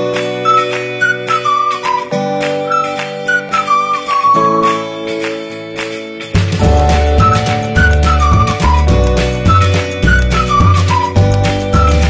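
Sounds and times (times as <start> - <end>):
gliding melody over chords and beat: 0.0 - 12.0.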